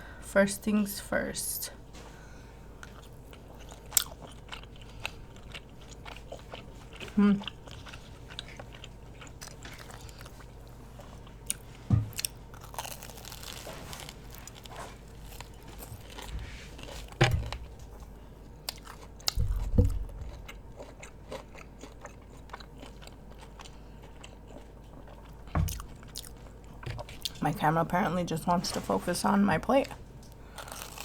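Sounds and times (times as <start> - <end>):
person chewing crunchy food: 2.6 - 27.4, 30.2 - 31.0.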